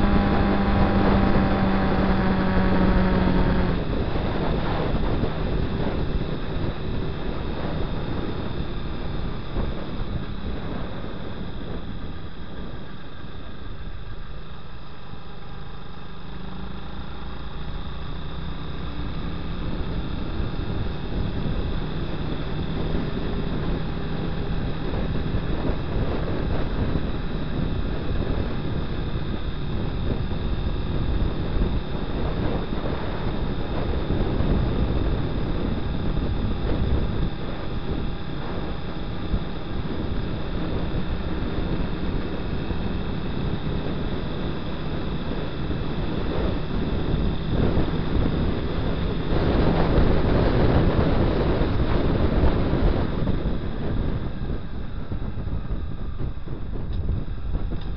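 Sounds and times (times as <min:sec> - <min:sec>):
motorcycle engine running: 0:00.0 - 0:57.9
wind rushing over microphone: 0:00.0 - 0:57.9.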